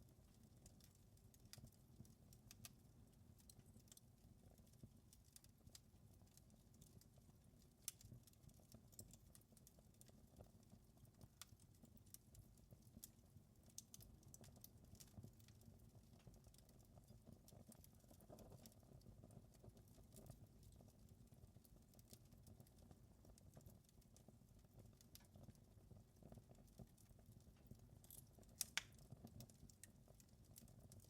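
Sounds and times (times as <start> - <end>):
fire crackling and popping: 0.1 - 31.0.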